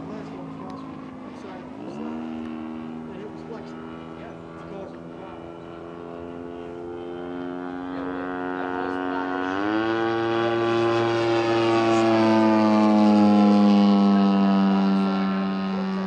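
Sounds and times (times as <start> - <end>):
model plane propeller engine: 0.0 - 16.0.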